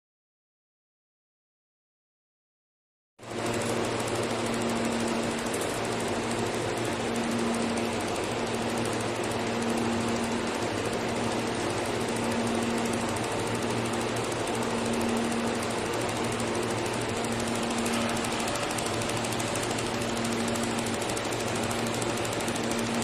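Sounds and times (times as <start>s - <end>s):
rapid buzzing rattle: 3.2s - 23.0s
welding machine humming: 3.2s - 23.0s.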